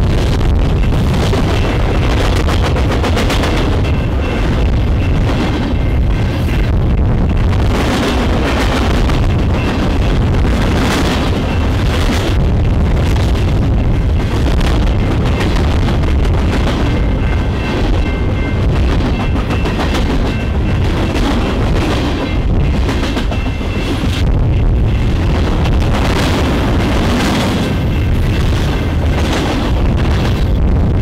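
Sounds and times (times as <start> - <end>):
freight train rumbling past: 0.0 - 31.0.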